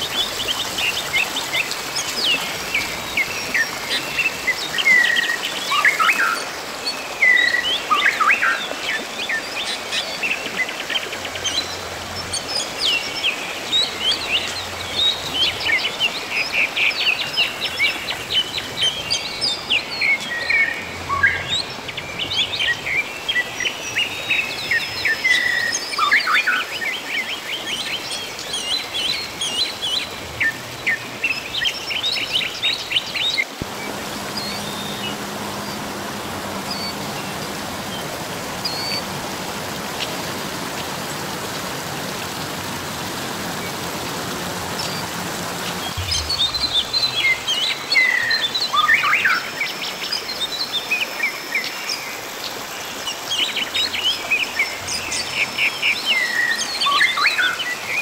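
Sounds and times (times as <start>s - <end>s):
birds chirping: 0.0s - 58.0s
running water: 0.0s - 58.0s.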